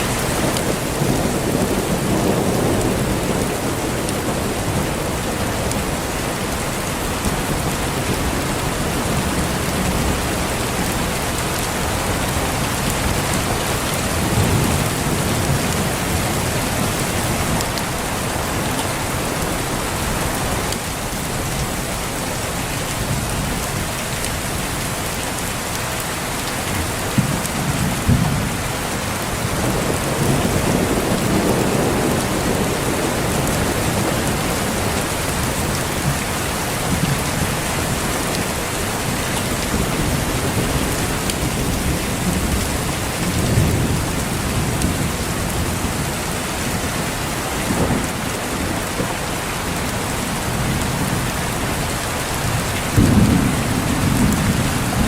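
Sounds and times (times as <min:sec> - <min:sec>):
heavy rain falling: 0:00.0 - 0:55.0
thunder rumbling: 0:00.1 - 0:20.8, 0:26.8 - 0:46.9, 0:50.4 - 0:55.0.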